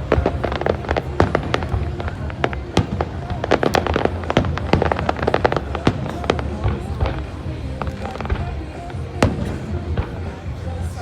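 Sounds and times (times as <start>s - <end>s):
firework bangs and crackling: 0.0s - 11.0s.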